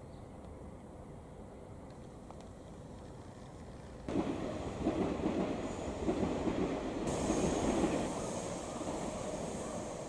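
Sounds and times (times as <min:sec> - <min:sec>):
train rumbling on rails: 0:00.5 - 0:10.0.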